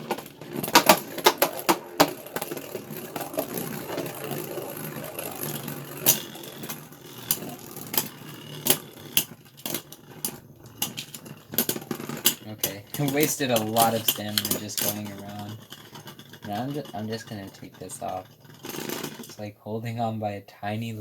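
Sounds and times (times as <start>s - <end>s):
spinning tops colliding clicks: 0.0s - 19.4s
spinning tops whirring and rattling: 0.0s - 19.5s.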